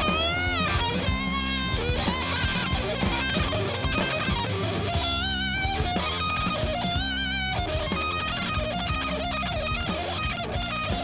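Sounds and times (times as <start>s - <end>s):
hard rock music: 0.0s - 11.0s
lead guitar vibrato notes: 0.0s - 11.0s.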